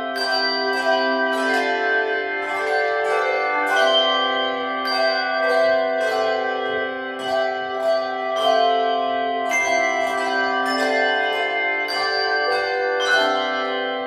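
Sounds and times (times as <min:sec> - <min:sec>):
handbells playing a tune: 0:00.0 - 0:14.0.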